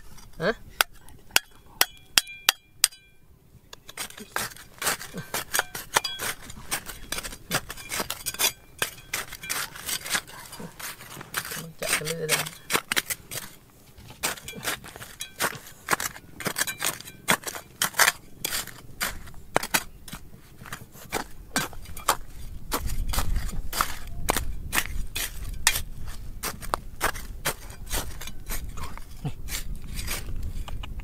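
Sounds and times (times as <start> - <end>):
digging tools striking rock: 0.2 - 30.4.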